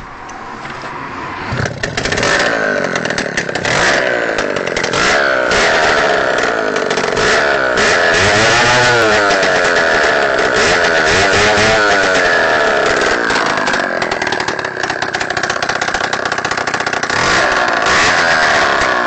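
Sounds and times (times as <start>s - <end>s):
moped engine revving: 0.0s - 19.0s.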